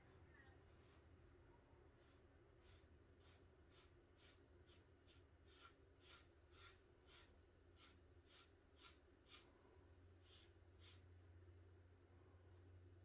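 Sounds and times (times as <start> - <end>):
foam brush swishing on plywood: 0.0 - 1.3, 1.9 - 11.2.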